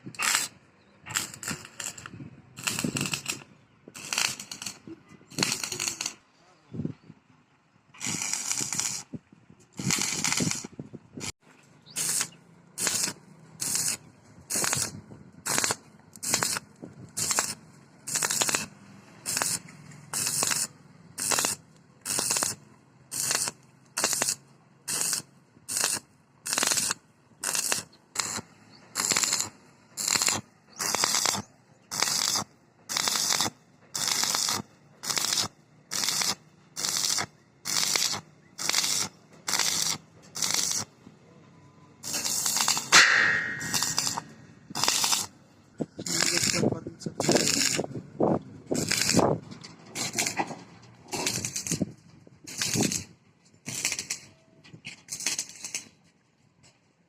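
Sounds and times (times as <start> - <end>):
welding arc crackling: 0.2 - 6.2, 8.0 - 9.1, 9.8 - 40.9, 42.0 - 45.4, 46.0 - 47.9, 48.7 - 49.4, 50.0 - 50.5, 51.1 - 54.3, 55.0 - 55.9.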